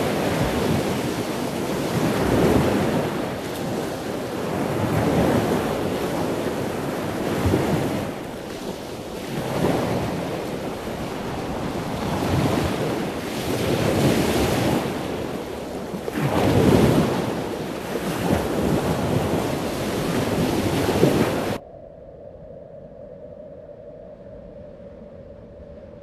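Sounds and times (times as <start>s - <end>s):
ocean waves rushing surf: 0.0s - 21.6s
wind: 0.0s - 26.0s.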